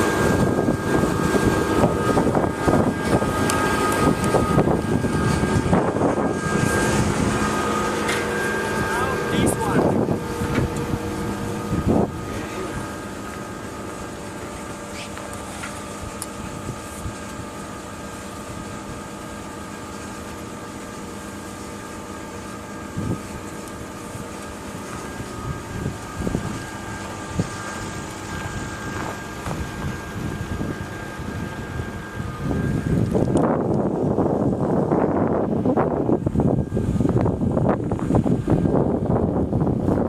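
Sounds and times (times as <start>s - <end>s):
turboprop engine humming: 0.0s - 40.0s.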